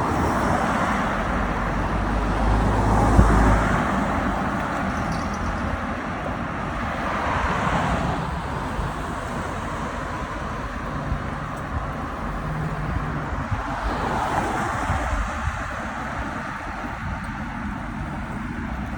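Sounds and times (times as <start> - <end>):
street traffic noise: 0.0 - 18.9
wind rumble on microphone: 0.0 - 18.9.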